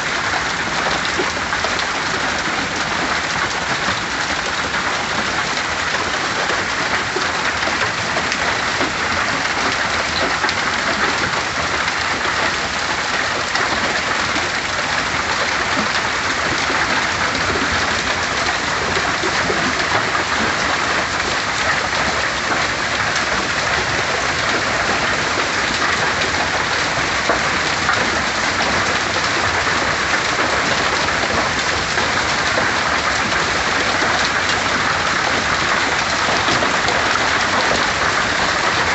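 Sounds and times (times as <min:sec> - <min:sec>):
hail and heavy rain pelting: 0:00.0 - 0:38.9.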